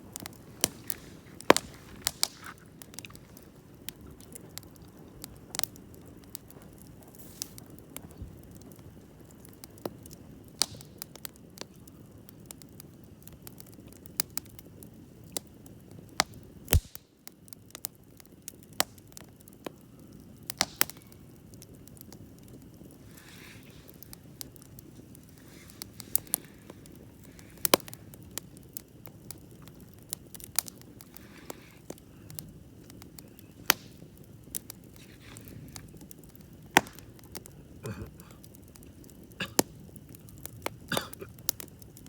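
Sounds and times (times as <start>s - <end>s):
campfire flame rushing: 0.0s - 42.0s
fire crackling and popping: 0.0s - 42.0s.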